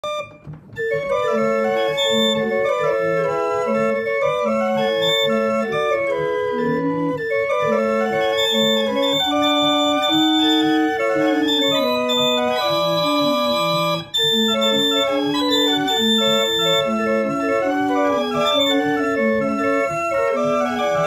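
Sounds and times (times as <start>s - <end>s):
hand-cranked pipe organ melody: 0.0s - 21.0s.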